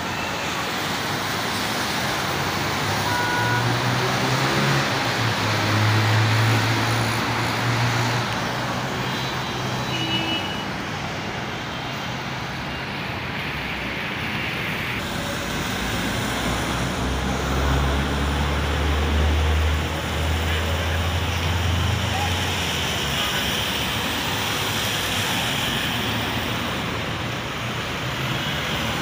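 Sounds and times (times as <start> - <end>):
tyres hissing on wet asphalt: 0.0 - 29.0.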